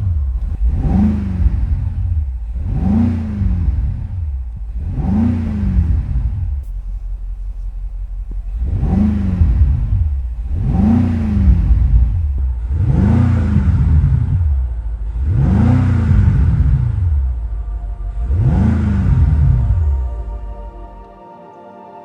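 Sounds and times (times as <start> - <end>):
car engine revving: 0.0 - 13.8, 15.0 - 21.1.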